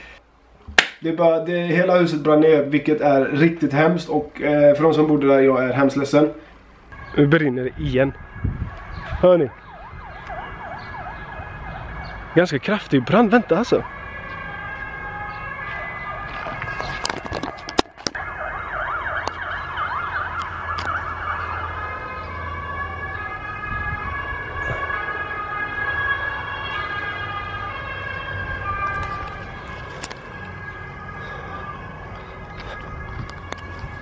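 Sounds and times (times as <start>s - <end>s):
emergency vehicle siren: 3.4s - 34.0s.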